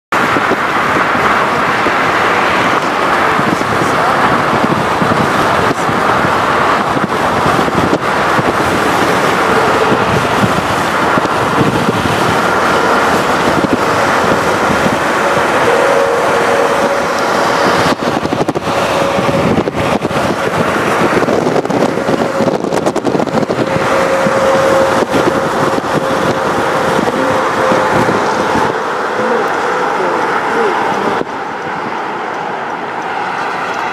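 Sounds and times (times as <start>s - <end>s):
traffic noise: 0.1s - 33.9s
wind: 0.1s - 33.9s
jet airliner engines droning: 0.2s - 33.9s.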